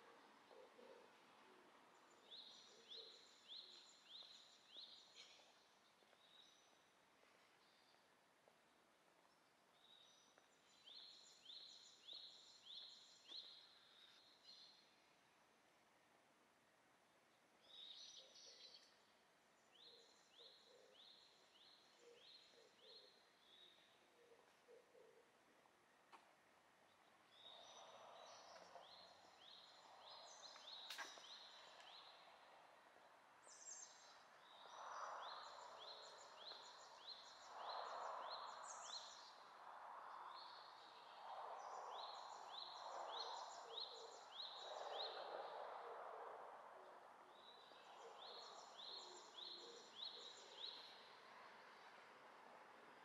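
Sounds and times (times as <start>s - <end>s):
songbird singing: 0.0s - 15.4s, 17.2s - 26.0s, 26.8s - 53.0s.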